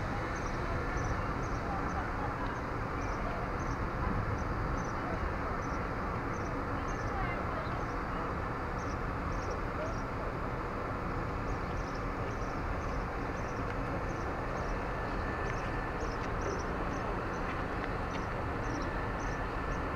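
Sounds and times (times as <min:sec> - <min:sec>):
diesel train rumble: 0:00.0 - 0:19.9.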